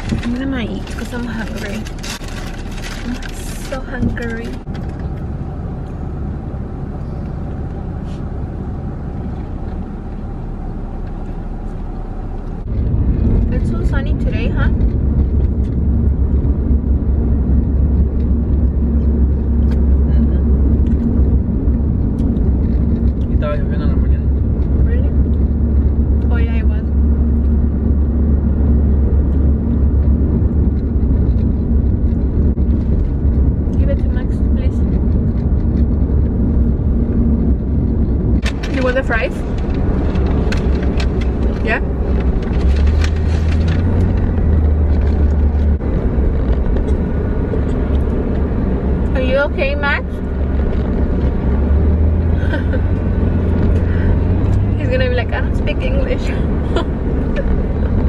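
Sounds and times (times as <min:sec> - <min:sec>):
car engine rumble from inside: 0:00.0 - 0:58.0.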